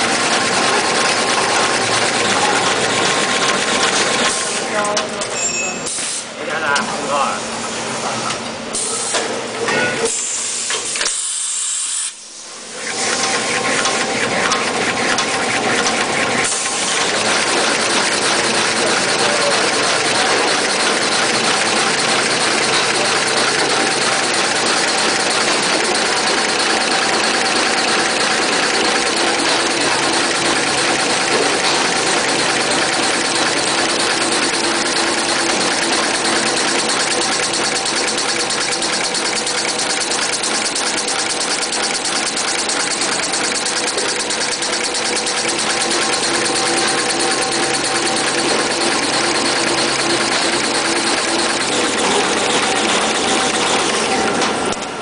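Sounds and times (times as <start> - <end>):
rapid even clatter: 0.0 - 4.4, 13.1 - 54.8
production line machinery din: 0.0 - 55.0.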